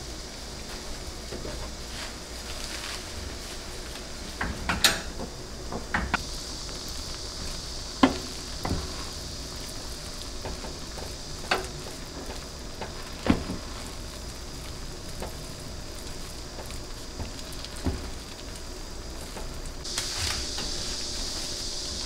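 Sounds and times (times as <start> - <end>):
rice sizzling in a pot: 0.0 - 22.0.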